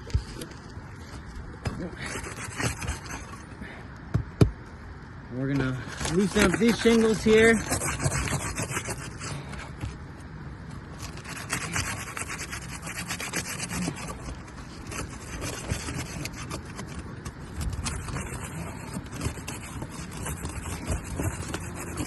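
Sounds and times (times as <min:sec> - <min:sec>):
shingles tearing: 0:00.0 - 0:03.5, 0:05.5 - 0:09.9, 0:10.8 - 0:22.0
shingles scraping and crackling: 0:00.0 - 0:04.6, 0:05.3 - 0:22.0.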